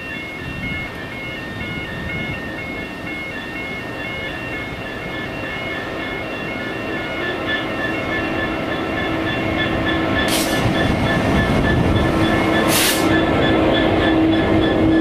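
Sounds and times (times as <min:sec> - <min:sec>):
diesel freight locomotive: 0:00.0 - 0:15.0.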